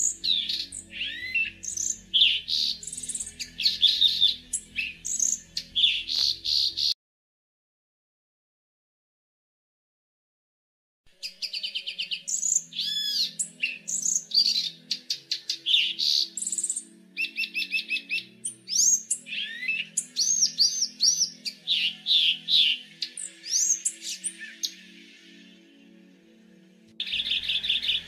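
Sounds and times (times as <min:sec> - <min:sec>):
soft background music: 0:00.0 - 0:07.0, 0:11.1 - 0:28.0
songbird singing: 0:00.0 - 0:07.0, 0:11.1 - 0:28.0.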